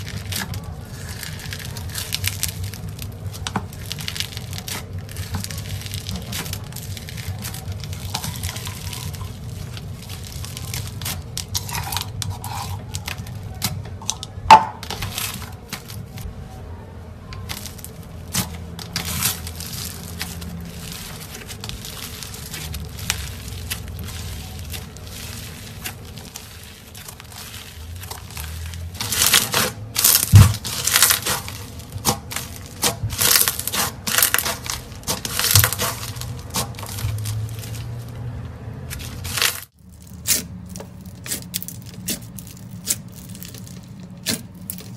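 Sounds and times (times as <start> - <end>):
foam slime crackling and popping: 0.0 - 16.3, 17.3 - 44.9.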